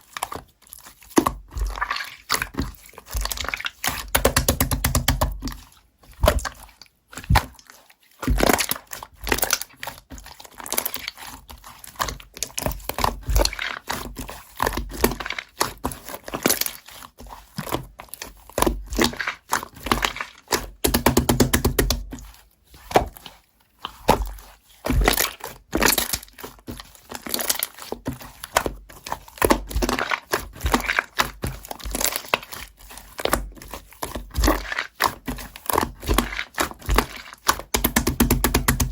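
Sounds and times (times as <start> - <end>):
slime squishing and crackling: 0.0 - 38.9.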